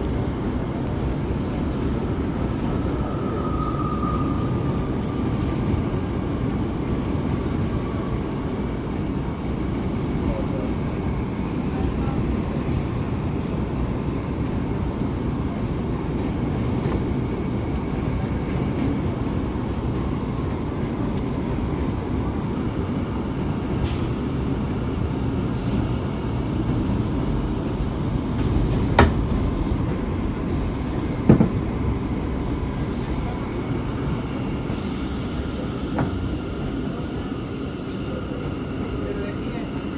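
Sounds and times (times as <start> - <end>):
subway wheels rumbling on rail: 0.0 - 39.9.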